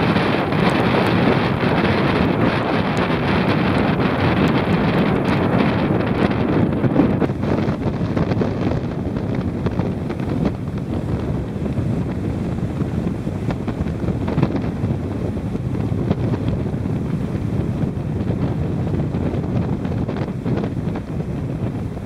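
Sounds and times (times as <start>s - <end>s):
gusty wind buffeting microphone: 0.0s - 22.0s.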